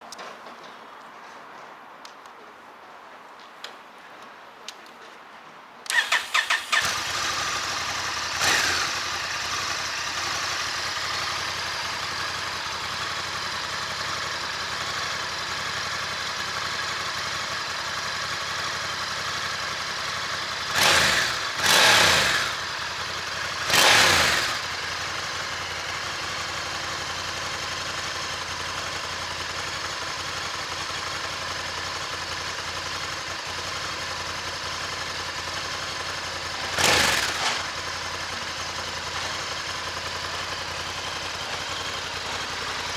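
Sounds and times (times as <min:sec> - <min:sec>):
motorcycle engine cranking: 0:05.9 - 0:42.9
motorcycle engine idling: 0:05.9 - 0:42.9.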